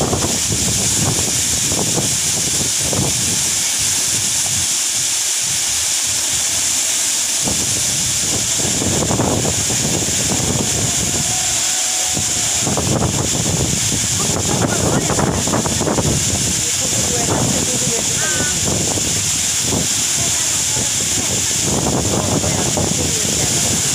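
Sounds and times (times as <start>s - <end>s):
wind buffeting microphone: 0.0s - 4.8s, 7.4s - 23.9s
waterfall rushing: 0.0s - 23.9s.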